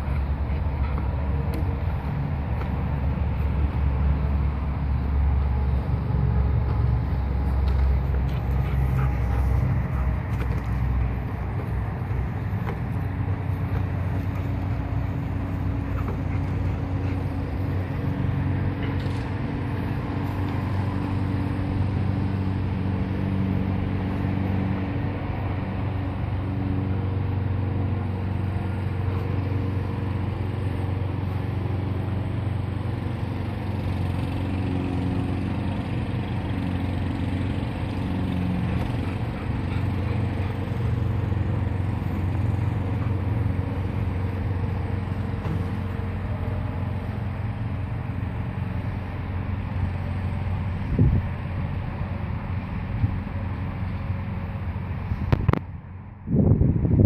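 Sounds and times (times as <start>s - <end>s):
low motor drone: 0.0s - 57.0s.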